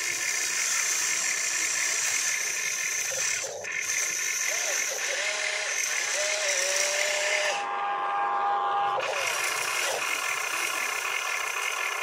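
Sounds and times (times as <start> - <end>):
toy excavator motors whining: 0.0 - 12.0.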